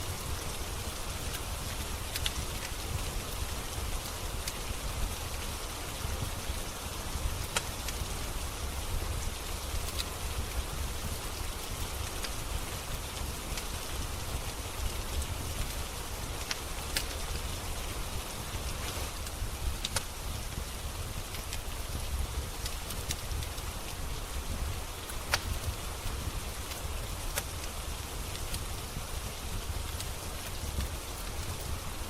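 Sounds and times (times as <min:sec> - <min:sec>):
steady rain falling: 0:00.0 - 0:32.0
wood fire crackling: 0:00.0 - 0:32.0.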